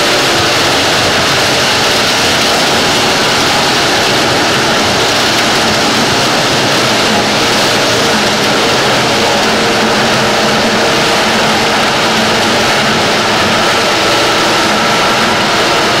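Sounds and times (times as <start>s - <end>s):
harvester engine and machinery: 0.0s - 16.0s.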